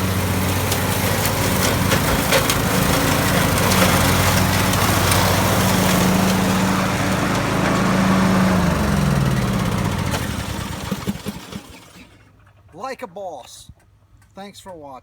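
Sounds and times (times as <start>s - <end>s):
riding mower engine: 0.0s - 12.7s.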